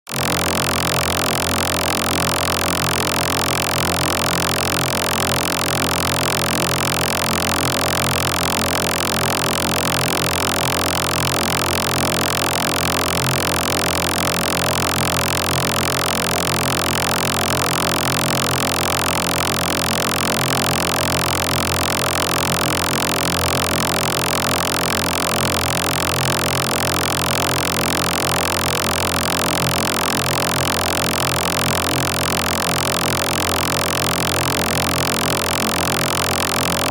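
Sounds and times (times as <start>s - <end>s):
electronic drone: 0.1s - 36.9s.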